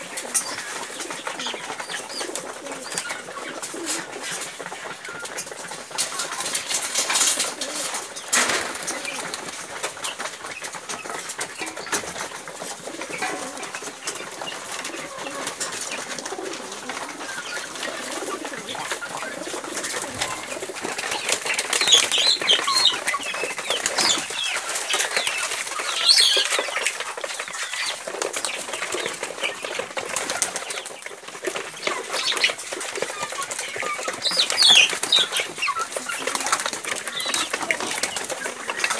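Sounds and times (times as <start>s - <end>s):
pigeons cooing: 0.0s - 38.9s
wings flapping: 0.0s - 38.9s.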